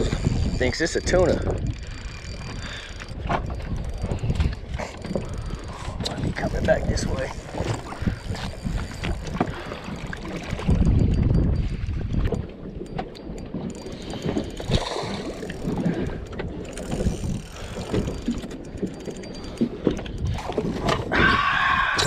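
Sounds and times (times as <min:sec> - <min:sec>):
fishing reel clicks and knocks: 0:00.0 - 0:21.1
wind buffeting microphone: 0:00.0 - 0:22.0.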